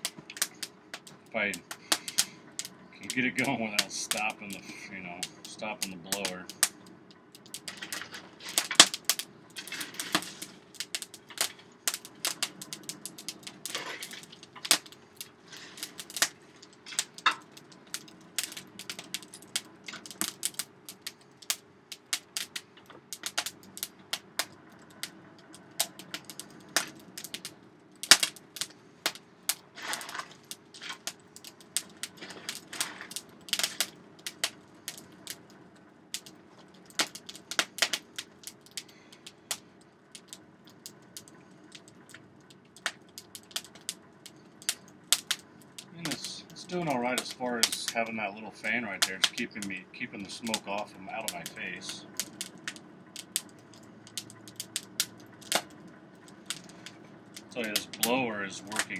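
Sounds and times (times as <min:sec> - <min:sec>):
fire crackling and popping: 0:00.0 - 0:58.9
steady low hum: 0:00.0 - 0:58.9.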